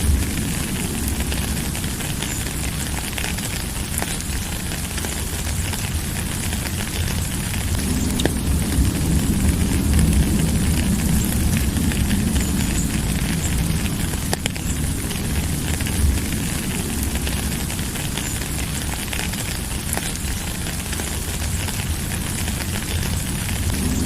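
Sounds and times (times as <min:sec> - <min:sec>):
low rumble: 0:00.0 - 0:24.0
steady rain falling: 0:00.0 - 0:24.0.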